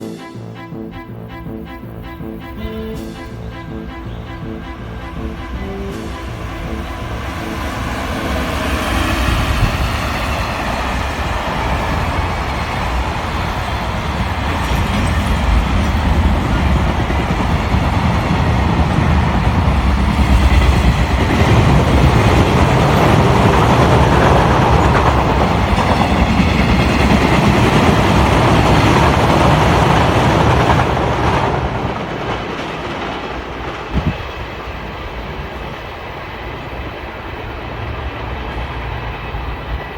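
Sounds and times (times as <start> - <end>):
train wheels clattering on rail joints: 2.9 - 39.9.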